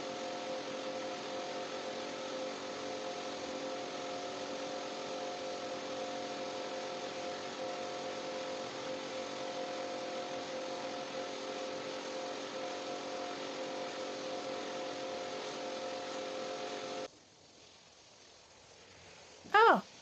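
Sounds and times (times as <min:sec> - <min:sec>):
rug-cleaning machine hiss and whine: 0:00.0 - 0:20.0.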